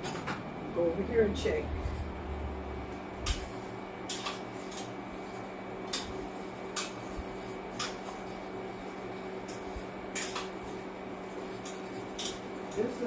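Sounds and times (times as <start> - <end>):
steady hum and hiss: 0.0 - 13.0.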